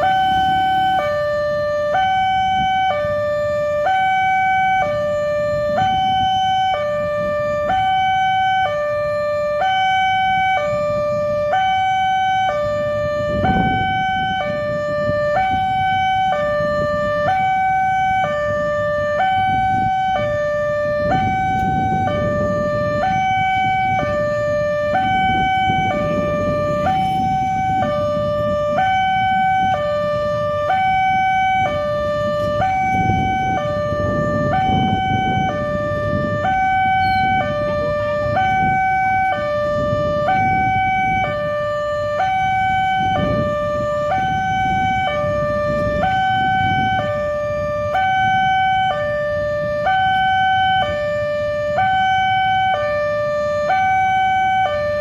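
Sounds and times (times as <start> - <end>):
road traffic rumble: 0.0 - 55.0
two-tone crossing alarm: 0.0 - 55.0.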